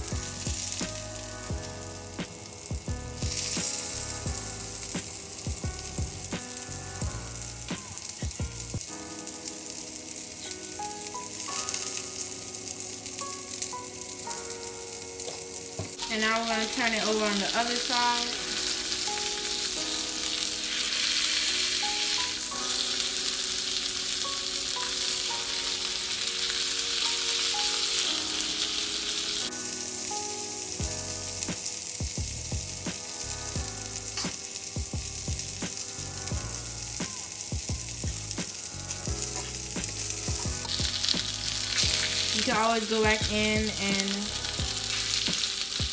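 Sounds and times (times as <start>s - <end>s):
fish sizzling in oil: 0.0s - 45.9s.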